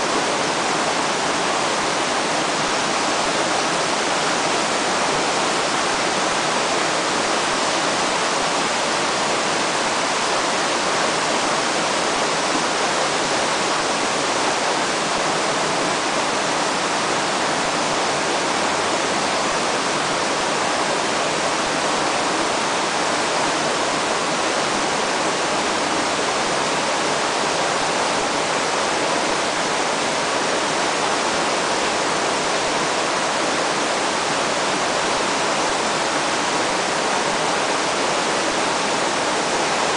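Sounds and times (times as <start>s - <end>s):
river current rushing: 0.0s - 39.9s.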